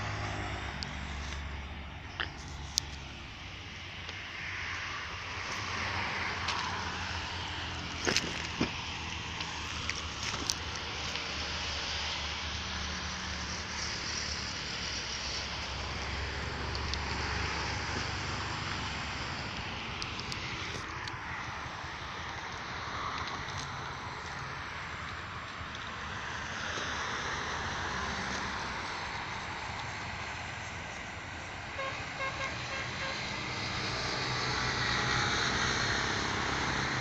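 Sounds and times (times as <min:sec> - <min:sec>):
vehicle rumble and hiss: 0:00.0 - 0:37.0.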